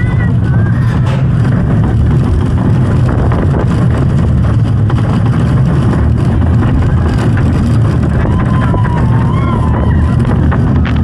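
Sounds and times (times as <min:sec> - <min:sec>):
light rattling: 0:00.0 - 0:11.0
roller coaster wheels rumbling: 0:00.0 - 0:11.0.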